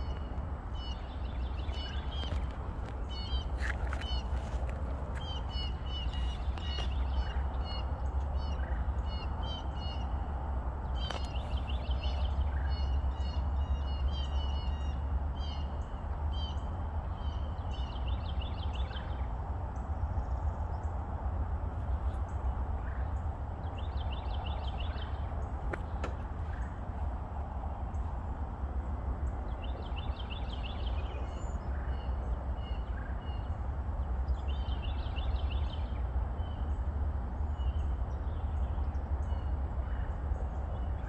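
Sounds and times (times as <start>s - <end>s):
songbird chirping: 0.0s - 21.2s, 21.8s - 41.0s
steady low rumble: 0.0s - 41.0s.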